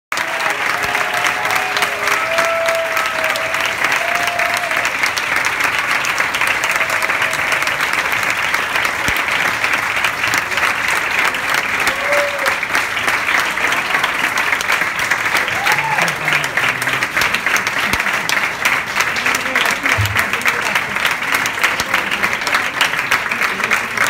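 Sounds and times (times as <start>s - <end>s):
audience clapping: 0.1s - 24.0s.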